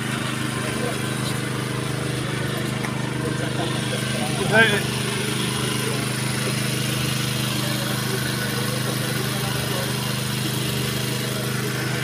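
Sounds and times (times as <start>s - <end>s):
faint crowd sounds: 0.0s - 12.0s
low mechanical drone: 0.0s - 12.0s.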